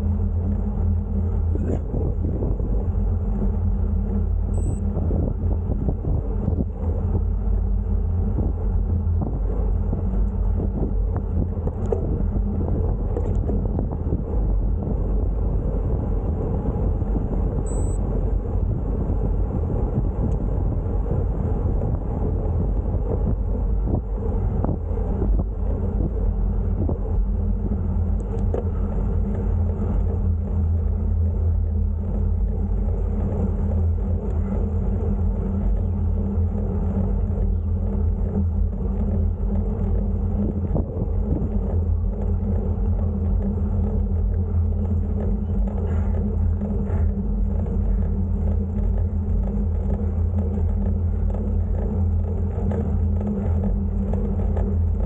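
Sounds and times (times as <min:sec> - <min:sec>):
wind on microphone: 0:00.0 - 0:55.0.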